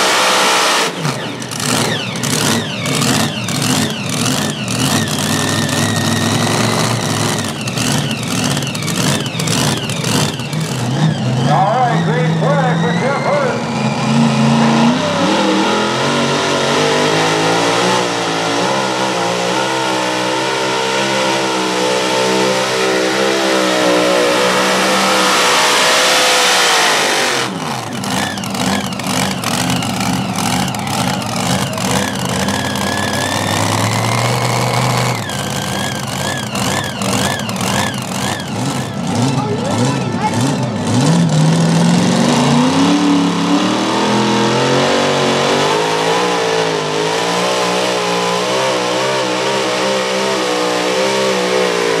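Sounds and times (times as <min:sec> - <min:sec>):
tractor engine at full throttle: 0:00.0 - 0:52.0.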